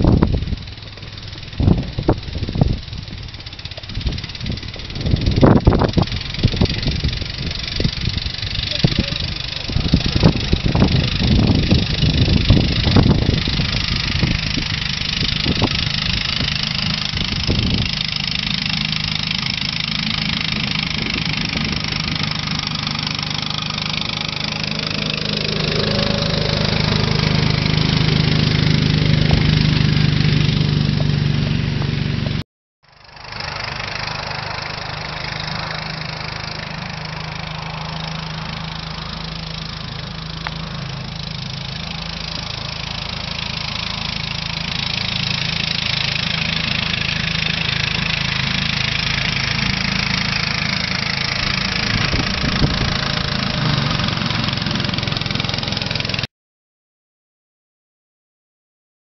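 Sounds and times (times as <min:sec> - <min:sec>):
miniature locomotive engine running: 0:00.0 - 0:56.3.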